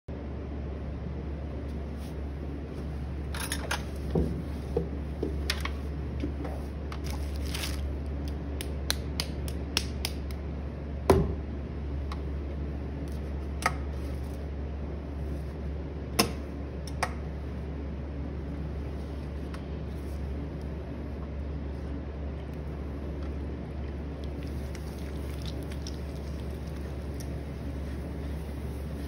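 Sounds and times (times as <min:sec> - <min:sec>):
steady low hum: 0:00.1 - 0:29.0.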